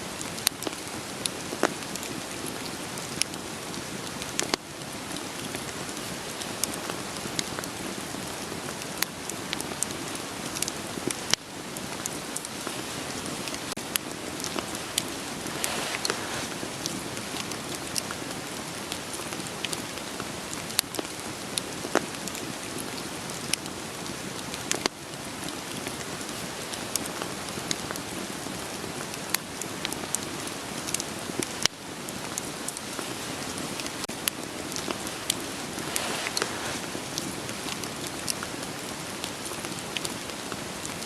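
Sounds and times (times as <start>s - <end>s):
steady rain hiss: 0.0s - 41.0s
firewood crackling and popping: 0.2s - 41.0s.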